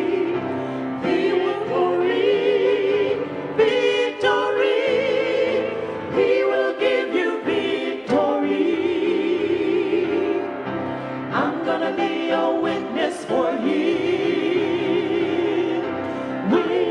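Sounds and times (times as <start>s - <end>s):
musical accompaniment: 0.0s - 16.9s
sacred vocal music: 0.0s - 16.9s.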